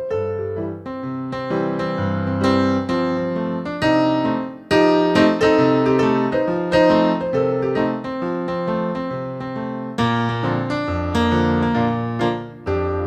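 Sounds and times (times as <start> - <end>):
instrumental keyboard music: 0.0 - 13.0.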